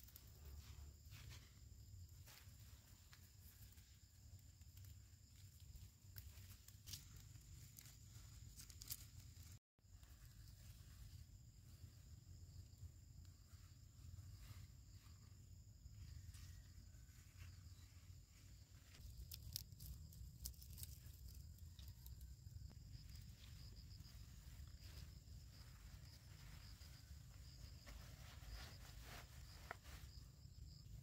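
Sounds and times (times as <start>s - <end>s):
leaves rustling: 0.0s - 11.2s, 15.9s - 30.9s
high insect drone: 0.0s - 31.0s.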